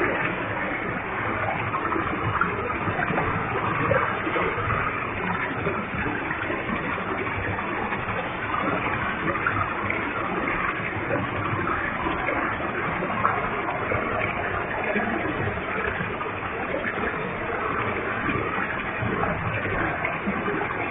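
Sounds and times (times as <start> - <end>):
waterfall rushing and splashing: 0.0 - 20.9.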